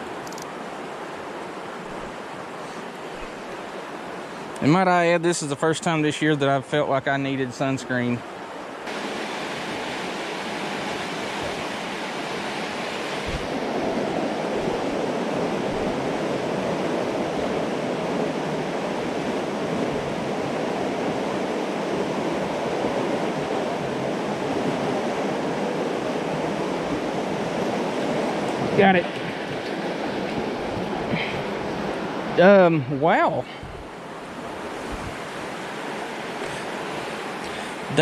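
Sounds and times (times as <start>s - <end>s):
flooded creek rushing: 0.0s - 38.0s.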